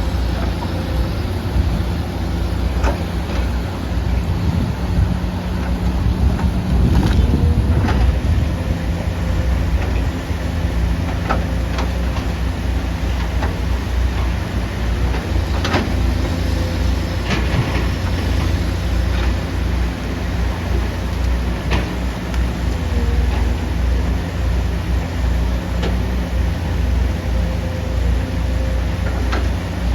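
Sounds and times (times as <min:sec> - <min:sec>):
excavator diesel engine running: 0:00.0 - 0:29.9.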